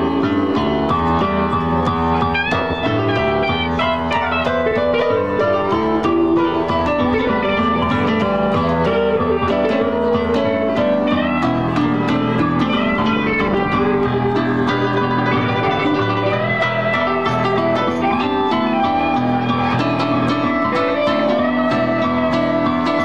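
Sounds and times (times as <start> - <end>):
electric guitar: 0.0 - 23.0
electronic keyboard with piano sound: 0.0 - 23.0.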